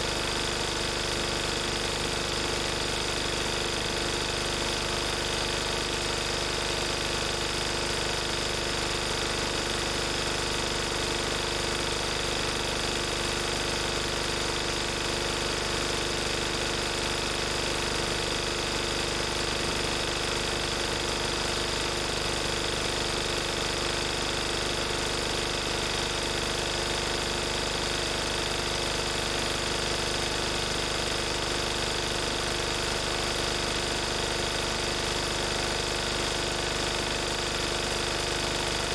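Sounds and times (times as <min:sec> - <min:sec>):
diesel generator running: 0:00.0 - 0:20.8, 0:22.7 - 0:38.9.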